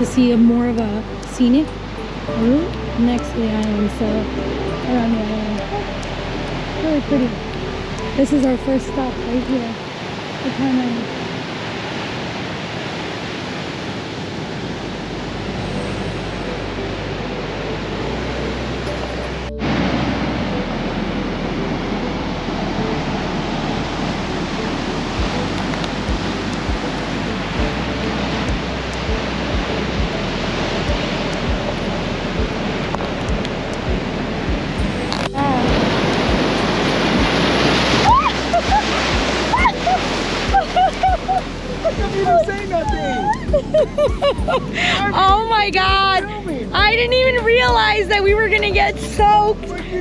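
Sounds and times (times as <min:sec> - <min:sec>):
ocean waves breaking on shore: 0:00.0 - 0:46.8.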